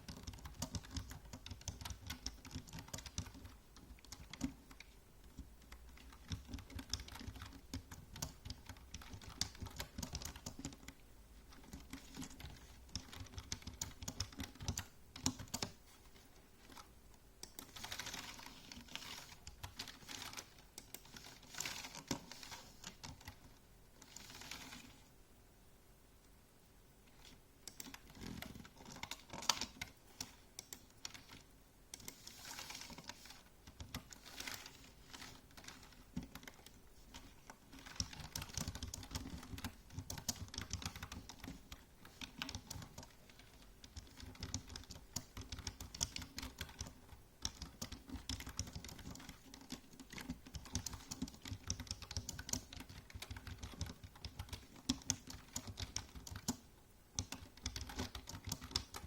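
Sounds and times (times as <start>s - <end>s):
typing on a keyboard: 0.0s - 15.8s, 16.7s - 25.0s, 27.2s - 59.0s.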